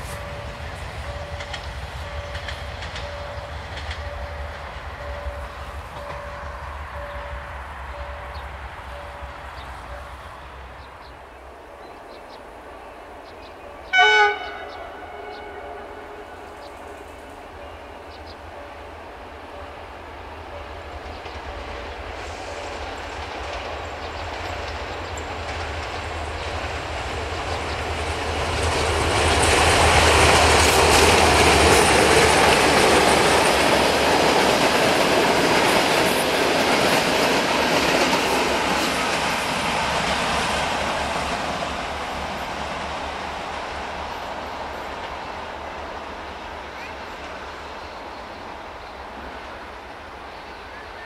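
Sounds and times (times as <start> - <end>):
train engine hum: 0.0 - 51.0
train wheels clicking on rails: 0.0 - 51.0.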